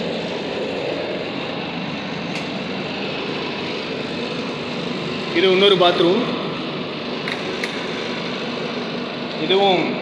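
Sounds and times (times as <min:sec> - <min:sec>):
machinery droning: 0:00.0 - 0:10.0.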